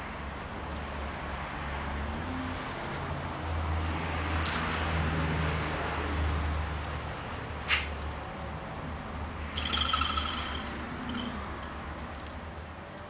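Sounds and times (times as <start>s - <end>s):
vehicle engine rumble passing: 0.0s - 12.9s.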